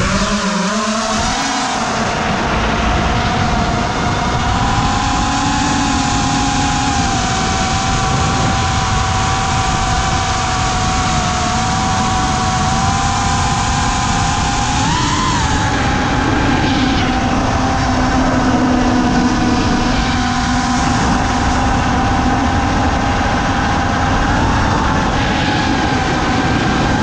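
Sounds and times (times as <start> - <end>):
drone motors whining: 0.0 - 27.0
rushing wind noise: 0.0 - 27.0.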